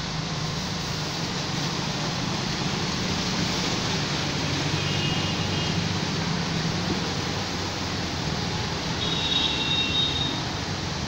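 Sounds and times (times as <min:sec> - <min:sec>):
motorbike engines: 0:00.0 - 0:11.0
water splashing around wheels: 0:00.0 - 0:11.0.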